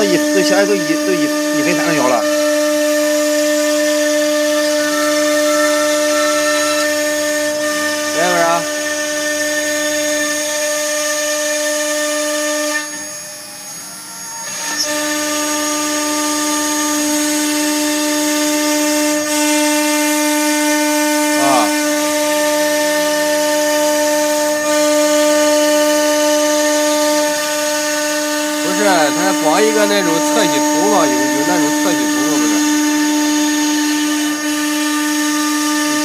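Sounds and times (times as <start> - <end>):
router spindle whine: 0.0 - 36.0.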